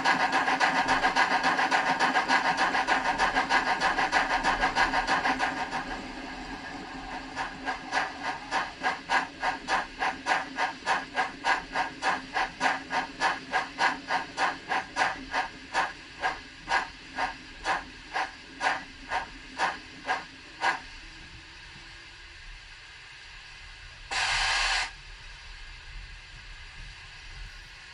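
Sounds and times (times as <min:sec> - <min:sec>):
steam locomotive chuffing: 0:00.0 - 0:22.2, 0:22.9 - 0:25.0.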